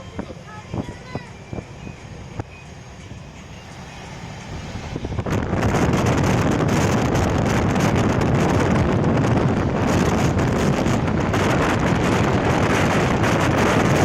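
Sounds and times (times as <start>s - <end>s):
train running rumble: 0.0s - 14.0s
wind buffeting microphone: 0.0s - 14.0s.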